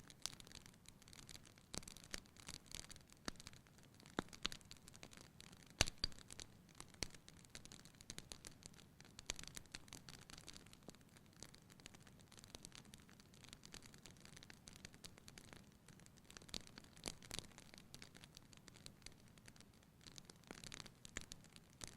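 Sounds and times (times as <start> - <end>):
fire crackling and popping: 0.0 - 21.9.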